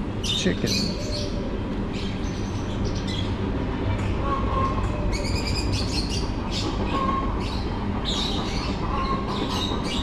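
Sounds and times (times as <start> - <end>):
birds chattering and chirping: 0.0 - 10.0.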